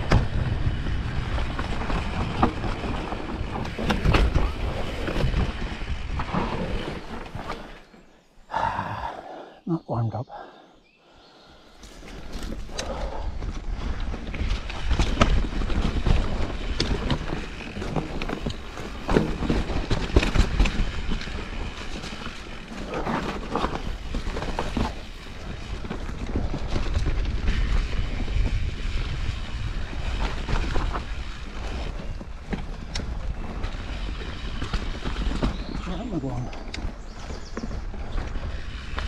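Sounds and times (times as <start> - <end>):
bike rattling over bumps: 0.0 - 9.1, 11.5 - 39.0
bike tyres rolling on dirt: 0.0 - 9.5, 10.4 - 39.0.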